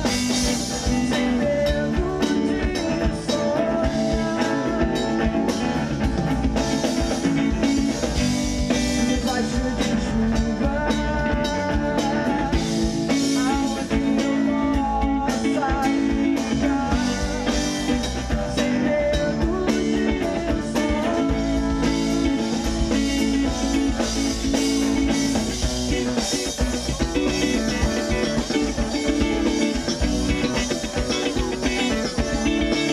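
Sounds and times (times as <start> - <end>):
person singing: 0.0 - 6.0, 6.6 - 32.9
live rock band playing: 0.0 - 32.9.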